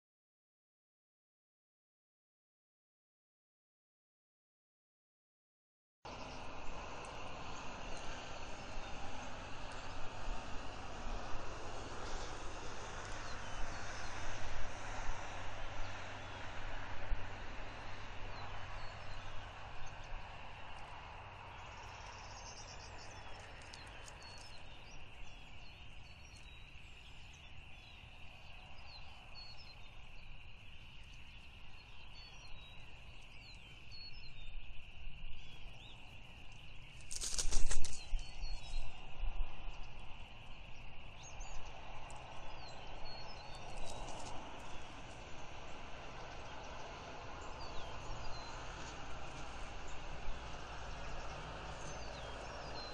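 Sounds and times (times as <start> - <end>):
small birds chirping: 6.1 - 52.9.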